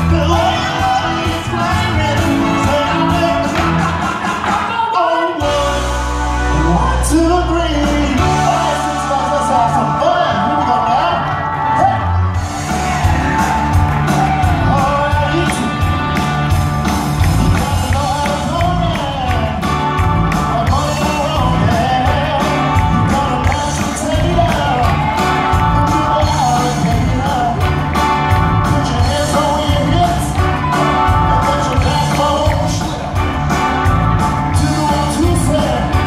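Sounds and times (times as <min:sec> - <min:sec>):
steady drum beat: 0:00.0 - 0:06.4, 0:12.3 - 0:36.0
bass line: 0:00.0 - 0:36.0
lead singer singing: 0:00.0 - 0:36.0
live rock band: 0:00.0 - 0:36.0.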